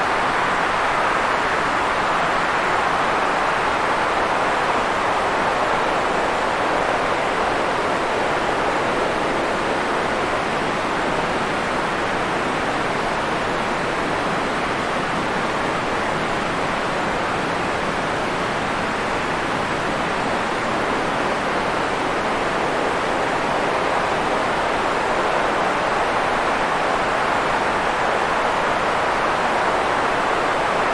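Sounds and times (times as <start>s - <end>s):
white noise hiss: 0.0s - 30.9s.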